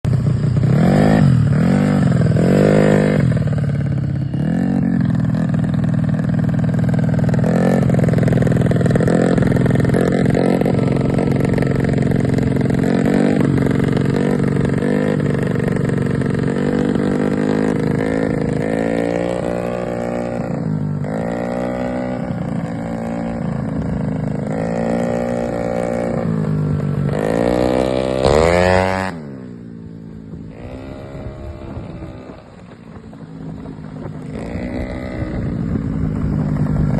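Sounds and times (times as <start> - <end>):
scooter engine revving: 0.0 - 36.9.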